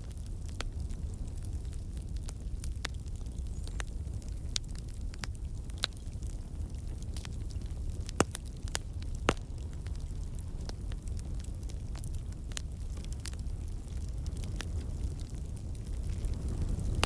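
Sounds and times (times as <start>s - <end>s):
burning logs popping: 0.0s - 17.0s
campfire crackling: 0.0s - 17.0s
low rumble of flames: 0.0s - 17.0s.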